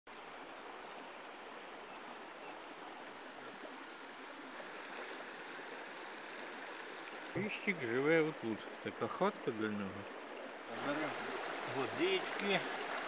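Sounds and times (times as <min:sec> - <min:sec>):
river flowing over rocks: 0:00.1 - 0:13.0.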